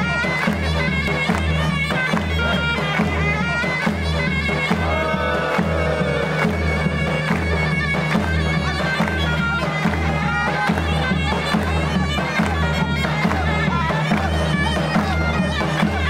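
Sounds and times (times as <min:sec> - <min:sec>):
shrill reedy wind instrument melody: 0:00.0 - 0:16.0
steady drum beat: 0:00.0 - 0:16.0.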